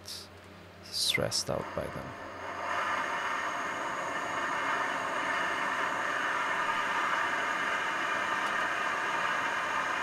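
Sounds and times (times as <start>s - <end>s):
steady rushing noise: 1.0s - 10.0s.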